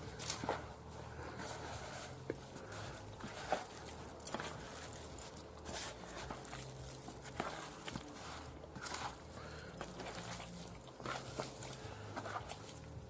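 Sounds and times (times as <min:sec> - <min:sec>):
hands rustling paper: 0:00.0 - 0:13.0
squelching of kneaded meat: 0:00.0 - 0:13.0.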